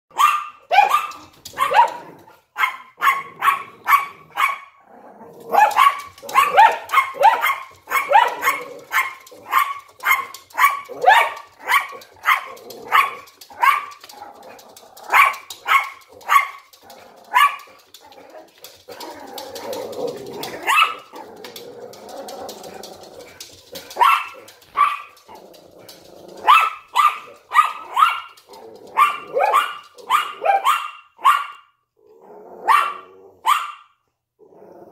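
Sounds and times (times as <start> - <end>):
dogs barking: 0.1 - 4.8, 5.4 - 21.6, 22.5 - 25.4, 26.2 - 31.7, 32.6 - 33.9.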